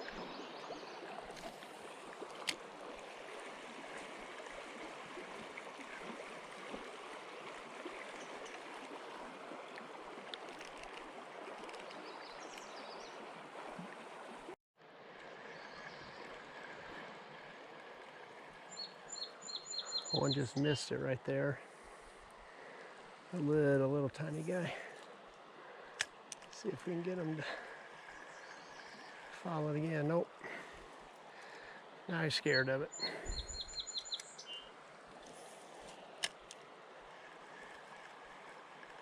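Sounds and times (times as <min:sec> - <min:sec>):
river water running over riffle: 0:00.0 - 0:39.0.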